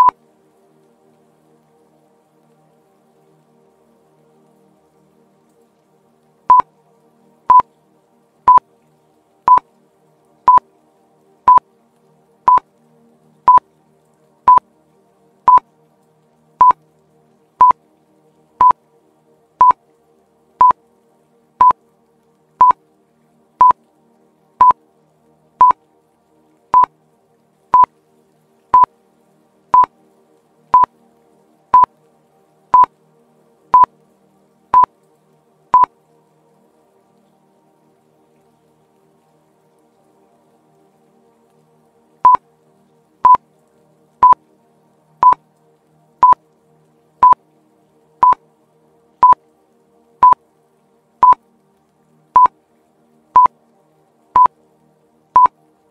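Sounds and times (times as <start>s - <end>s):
faint background music: 0.0s - 55.9s.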